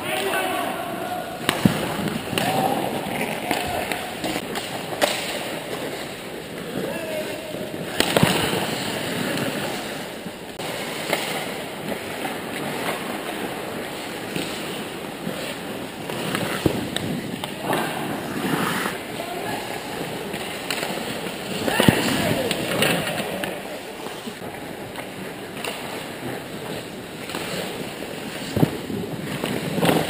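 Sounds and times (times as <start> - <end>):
hockey sticks and puck clacking: 0.0 - 30.0
skates scraping on ice: 0.0 - 30.0.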